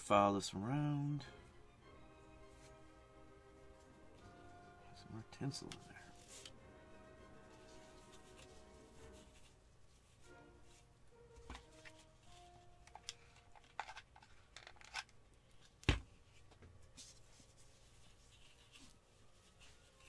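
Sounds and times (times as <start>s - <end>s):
paper and cotton wool rustling: 2.4s - 20.0s.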